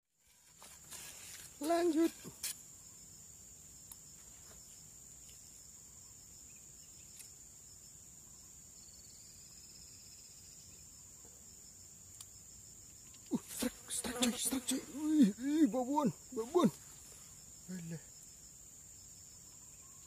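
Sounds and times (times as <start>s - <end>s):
faint insect drone: 0.1s - 20.0s.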